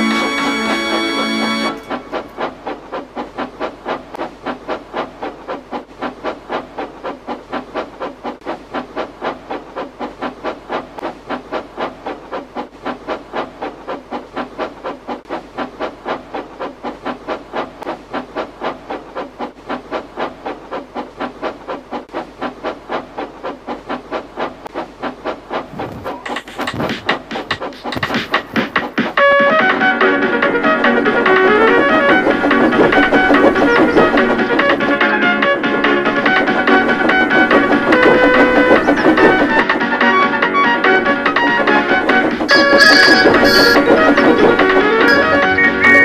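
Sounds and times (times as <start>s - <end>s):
steam locomotive chuffing: 0.0s - 46.0s.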